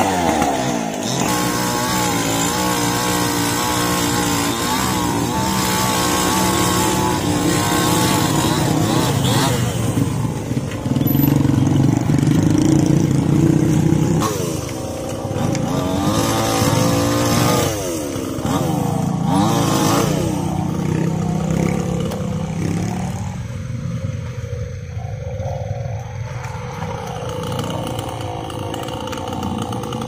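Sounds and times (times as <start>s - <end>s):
motorcycle engine revving: 0.0s - 30.0s
small motorcycle engines passing: 0.0s - 30.0s.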